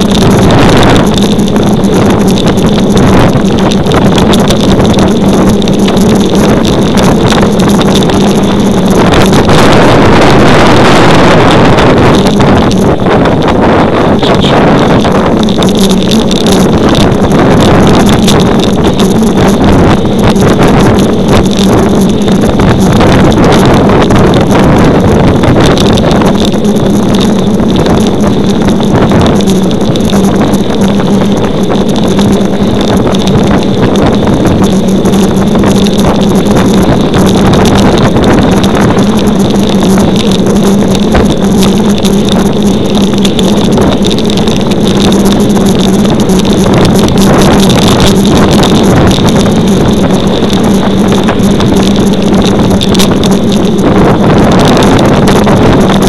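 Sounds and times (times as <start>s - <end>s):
steady low hum: 0.0s - 56.0s
wind rushing over microphone: 0.0s - 56.0s.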